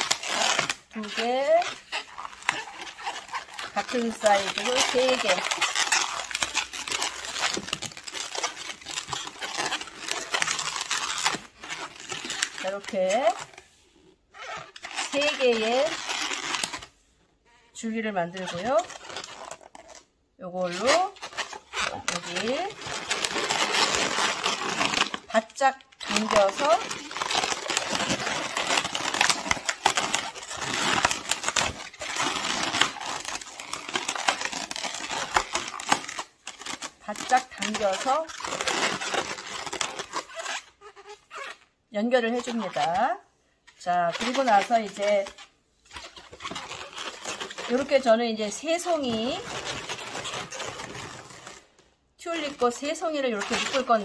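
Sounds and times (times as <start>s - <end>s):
balloon being twisted: 0.0s - 43.1s, 43.7s - 48.1s, 48.7s - 51.8s.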